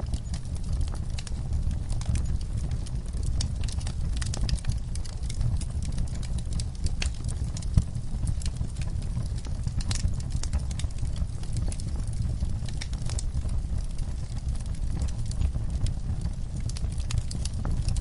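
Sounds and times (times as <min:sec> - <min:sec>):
fire crackling and popping: 0:00.0 - 0:18.0
low fire rumble: 0:00.0 - 0:18.0.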